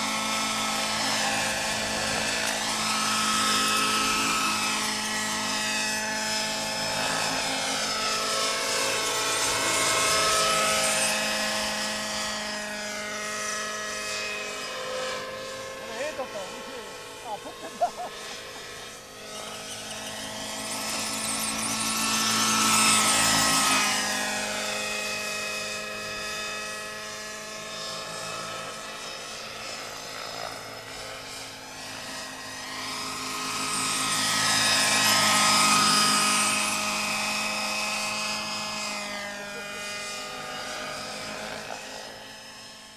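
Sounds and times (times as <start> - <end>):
model helicopter motor whine: 0.0 - 42.9.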